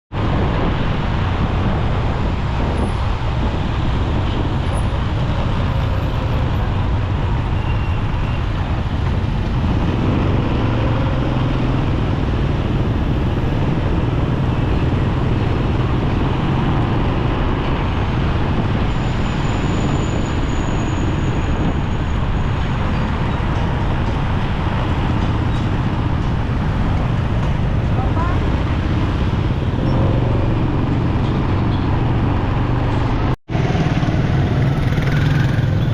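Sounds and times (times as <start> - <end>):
road traffic rumble: 0.1 - 35.9.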